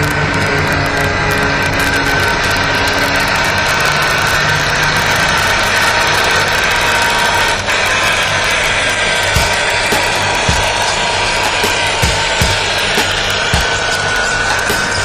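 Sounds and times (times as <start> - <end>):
motor and gearbox whine: 0.0 - 15.0
steel tracks clicking: 0.0 - 15.0.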